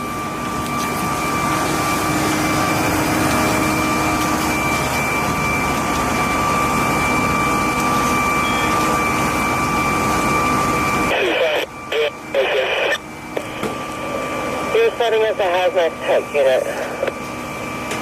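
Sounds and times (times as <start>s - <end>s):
fire engine pump running: 0.0s - 18.0s
high whine: 0.0s - 18.0s.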